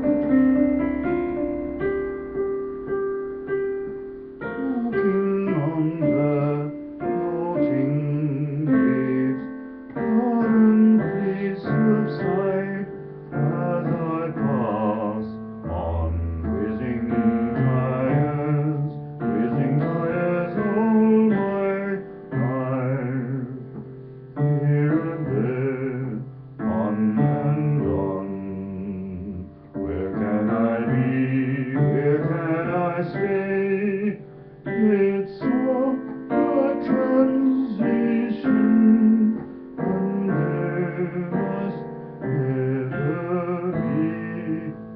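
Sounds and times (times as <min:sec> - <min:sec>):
digital piano chords and melody: 0:00.0 - 0:44.9.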